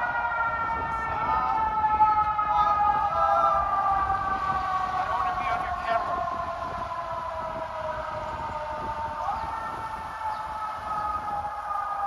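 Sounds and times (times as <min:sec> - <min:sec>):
fire engine siren: 0:00.0 - 0:12.0
street traffic rumble: 0:00.0 - 0:12.0.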